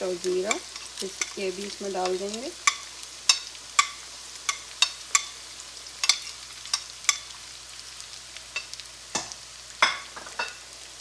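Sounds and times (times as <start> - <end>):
oil sizzling in a wok: 0.0 - 11.0.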